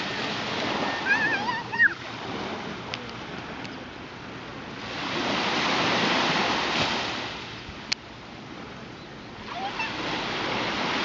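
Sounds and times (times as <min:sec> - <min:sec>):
small waves breaking on sand: 0:00.0 - 0:11.0.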